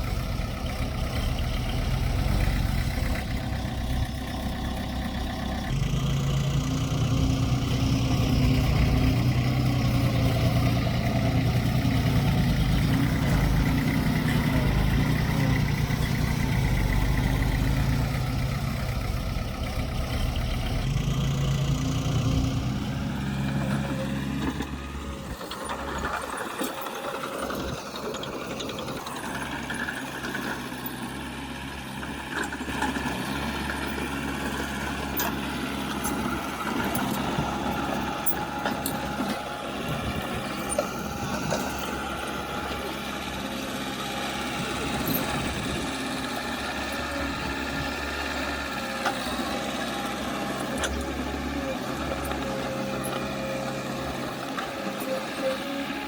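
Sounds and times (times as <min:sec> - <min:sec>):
heavy machinery diesel engine: 0:00.0 - 0:56.0.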